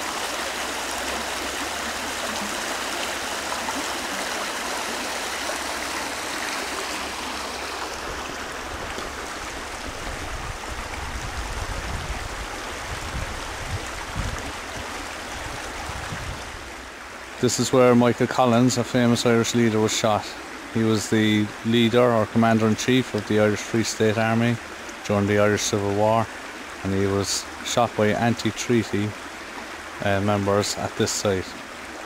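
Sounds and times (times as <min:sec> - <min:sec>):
stream splashing over rocks: 0:00.0 - 0:32.0.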